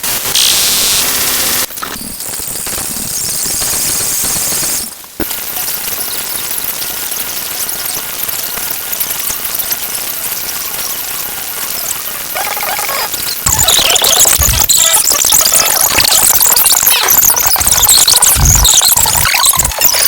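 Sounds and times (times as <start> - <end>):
harsh distorted sound effects: 0.0 - 20.0.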